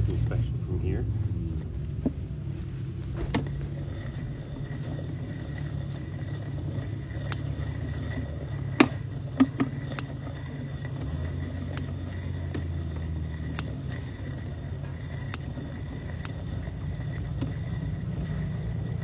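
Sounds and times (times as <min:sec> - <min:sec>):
low motor hum: 0:00.0 - 0:19.0
sharp clicks and knocks: 0:03.1 - 0:19.0.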